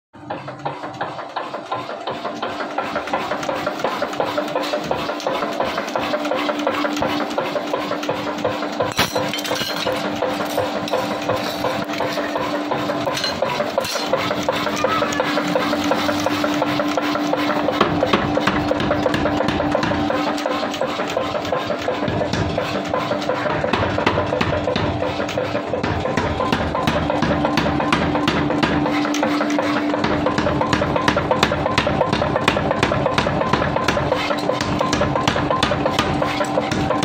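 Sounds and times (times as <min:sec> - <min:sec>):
power hammer pounding steel: 0:00.2 - 0:37.0
steady machine hum: 0:00.2 - 0:37.0.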